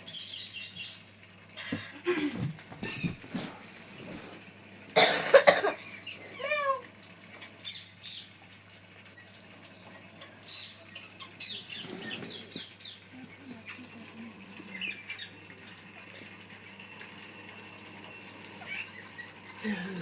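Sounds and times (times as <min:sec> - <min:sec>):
faint clicks and rustles: 0:01.0 - 0:05.0, 0:05.8 - 0:20.0.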